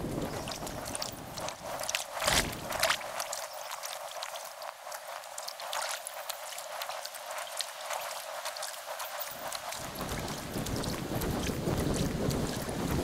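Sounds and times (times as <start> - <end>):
paddle splashes and drips: 0.0 - 13.0
river water splashing: 0.0 - 13.0.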